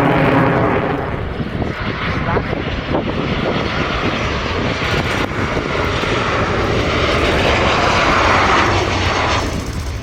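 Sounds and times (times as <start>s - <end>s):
passing aircraft engine roar: 0.0s - 10.0s.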